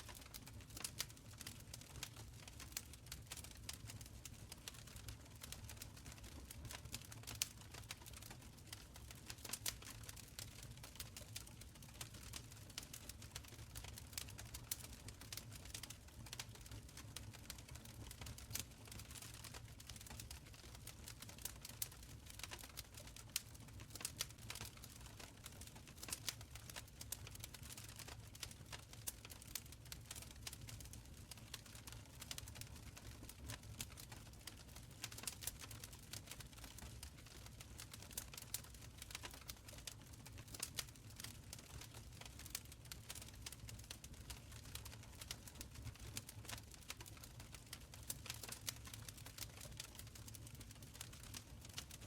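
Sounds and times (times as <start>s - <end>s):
low rumble of burning: 0.0s - 52.0s
wood fire crackling: 0.0s - 52.0s.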